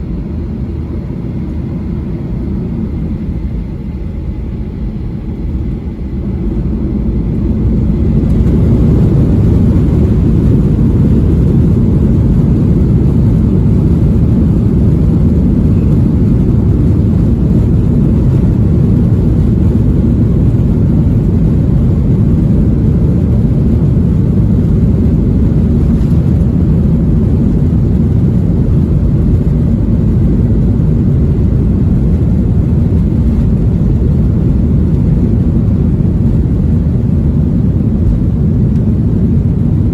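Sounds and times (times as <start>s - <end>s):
airliner engines taking off: 0.0s - 39.9s.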